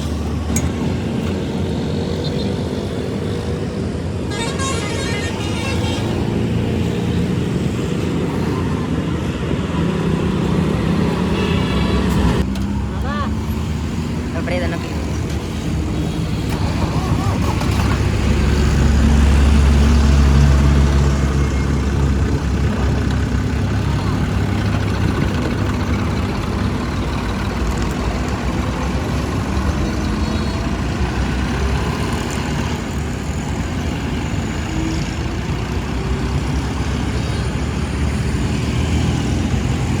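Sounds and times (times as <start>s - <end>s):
tractor engine rumbling: 0.0s - 40.0s.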